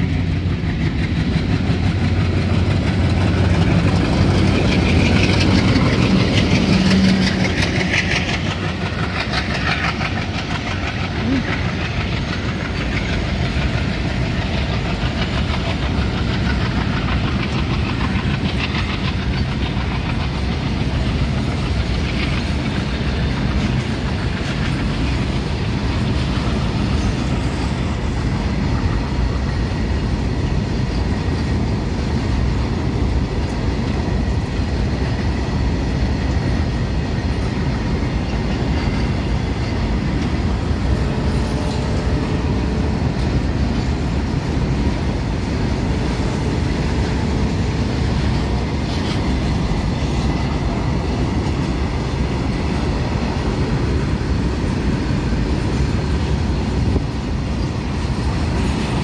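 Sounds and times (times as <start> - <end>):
freight train rumbling past: 0.0 - 59.0
steel wheels clattering: 0.0 - 59.0.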